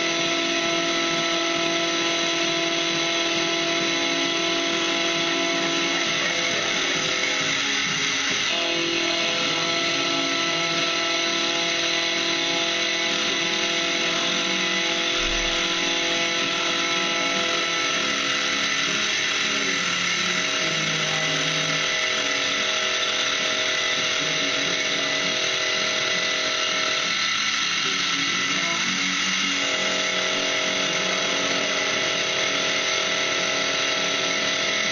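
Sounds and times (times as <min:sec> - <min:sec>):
milling cutter cutting metal: 0:00.0 - 0:34.9
motor and spindle whine: 0:00.0 - 0:34.9.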